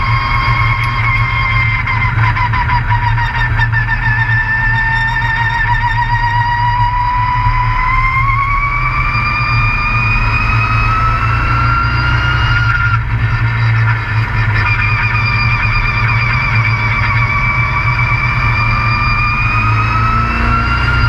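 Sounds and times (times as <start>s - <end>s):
high engine whine: 0.0s - 21.0s
truck engine rumble: 0.0s - 21.0s.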